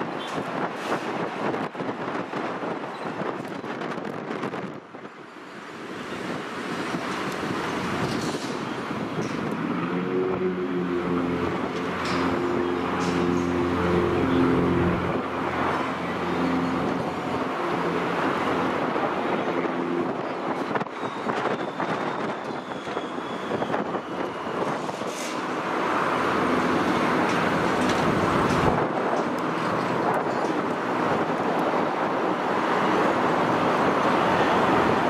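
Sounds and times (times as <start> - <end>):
propeller engines droning: 5.3 - 35.0
broad rushing noise: 5.7 - 35.0
wind on microphone: 6.0 - 35.0.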